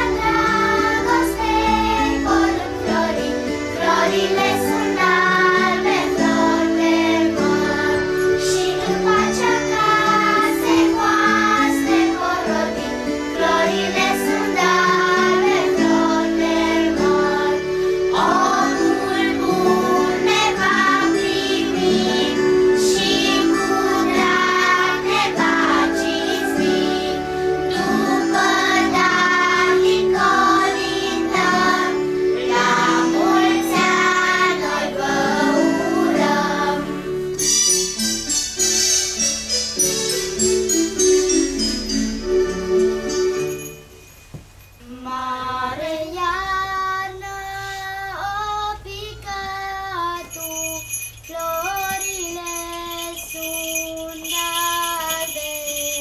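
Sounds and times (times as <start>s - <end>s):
children's choir singing a carol: 0.0s - 43.5s, 44.8s - 56.0s.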